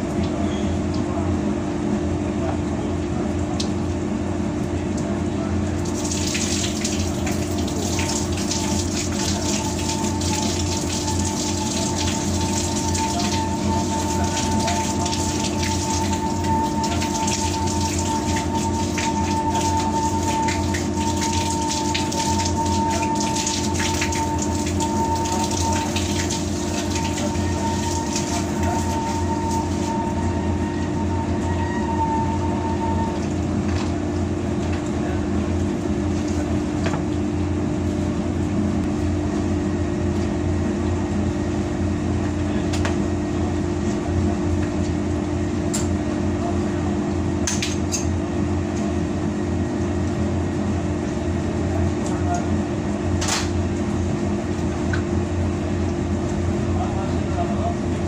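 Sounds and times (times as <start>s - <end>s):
water running through plumbing: 0.0s - 41.6s, 42.2s - 58.0s
laundry machinery hum: 0.0s - 58.0s.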